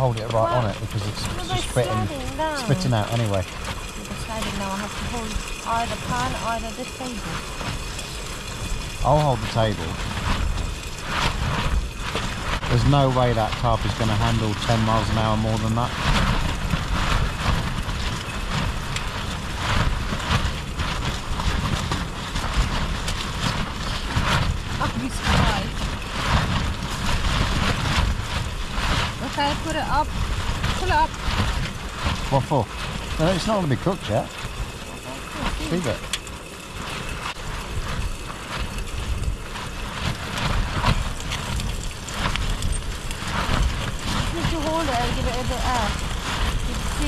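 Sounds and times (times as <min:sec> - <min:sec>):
burgers frying in a pan: 0:00.0 - 0:47.0
strong wind buffeting tent: 0:00.0 - 0:47.0.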